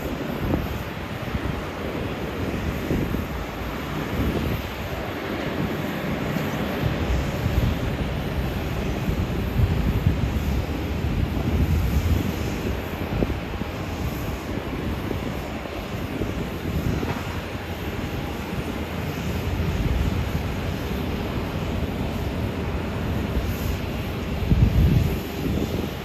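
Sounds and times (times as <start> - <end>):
jet airliner engines roaring: 0.0 - 26.0.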